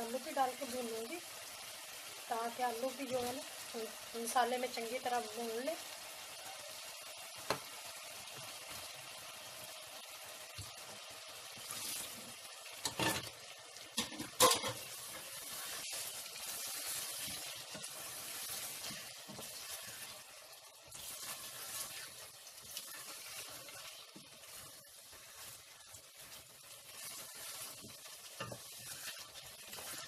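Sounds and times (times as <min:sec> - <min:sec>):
potatoes sizzling in a pot: 0:00.0 - 0:30.0.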